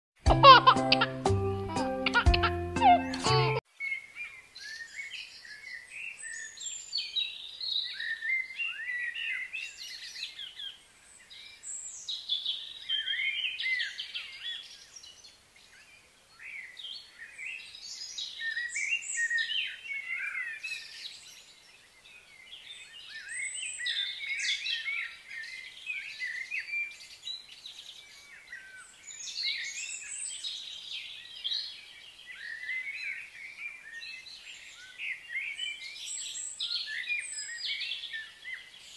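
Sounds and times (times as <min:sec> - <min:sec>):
wild birds singing and chirping: 0:02.0 - 0:38.9.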